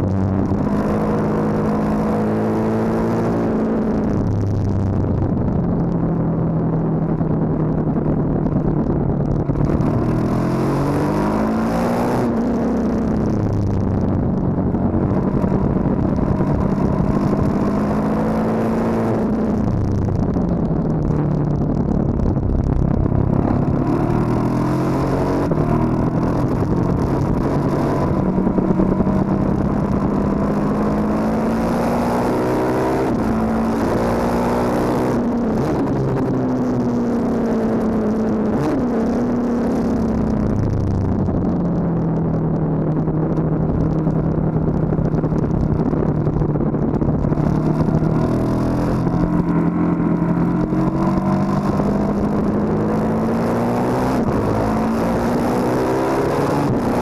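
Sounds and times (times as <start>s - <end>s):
motorcycle engine accelerating: 0.0s - 57.0s
wind noise: 0.0s - 57.0s.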